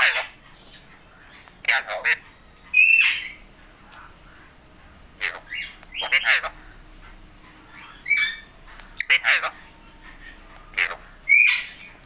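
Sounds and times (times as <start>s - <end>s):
parakeet calls: 0.0s - 12.0s.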